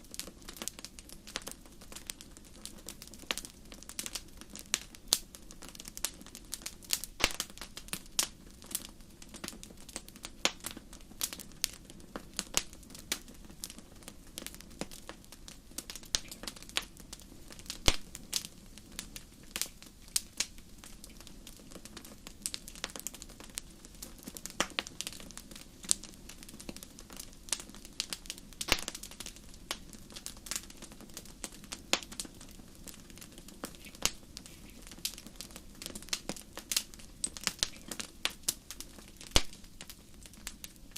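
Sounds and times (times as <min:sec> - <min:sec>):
irregular crackling and pops: 0:00.0 - 0:40.9.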